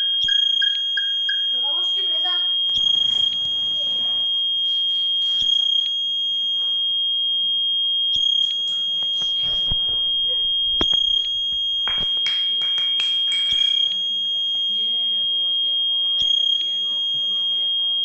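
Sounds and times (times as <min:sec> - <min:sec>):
parking sensor buzzer tone: 0:00.0 - 0:12.6, 0:13.5 - 0:18.0.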